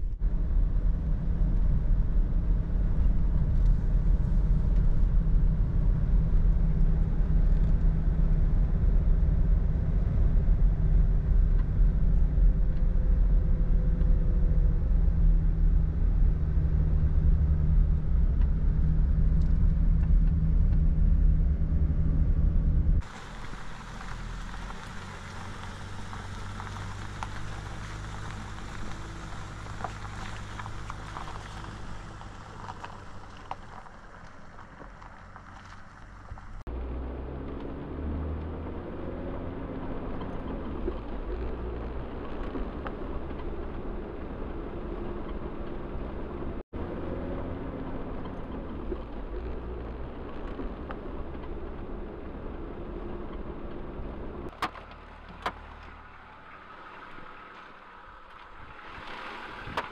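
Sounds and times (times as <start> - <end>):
tyre and road noise: 0.0 - 59.9
vehicle engine hum: 0.0 - 59.9.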